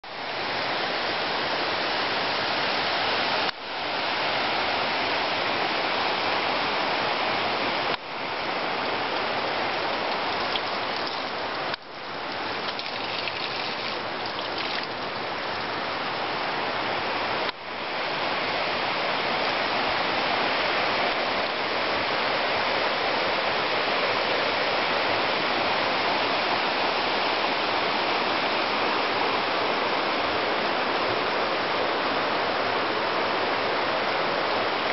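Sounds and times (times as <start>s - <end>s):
mountain river rushing: 0.0s - 34.9s.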